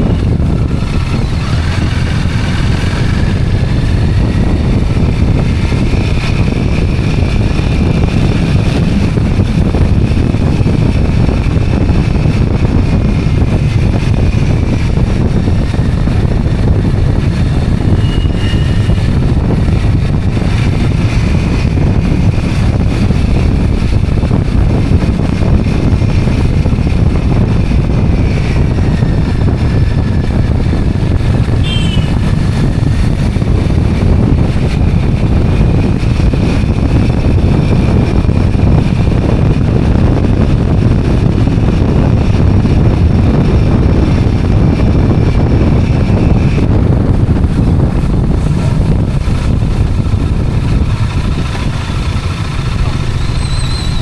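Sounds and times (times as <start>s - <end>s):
motorbike engine and road noise: 0.0s - 54.0s
wind buffeting on microphone: 0.0s - 54.0s.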